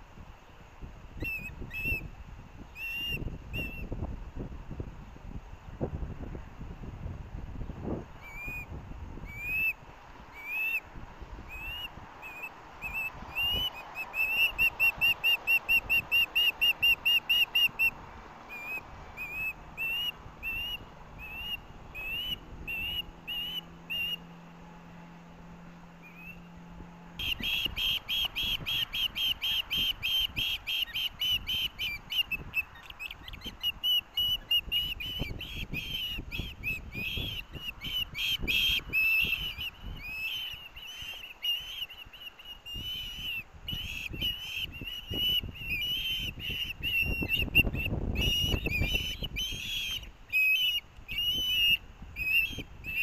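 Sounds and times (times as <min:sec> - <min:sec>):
ospreys chirping: 0:02.7 - 0:04.0, 0:08.2 - 0:24.5, 0:26.0 - 0:53.0.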